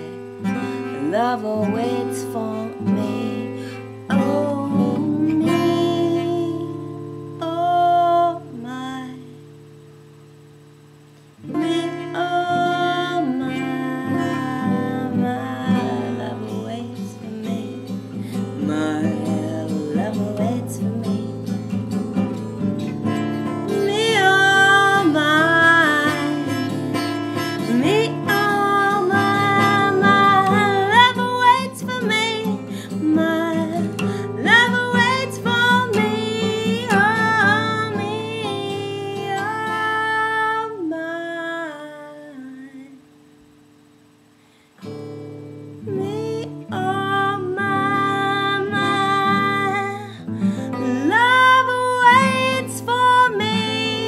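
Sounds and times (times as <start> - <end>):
woman singing: 0.0 - 9.6, 11.4 - 43.2, 45.8 - 54.0
acoustic guitar strumming chords: 0.0 - 54.0.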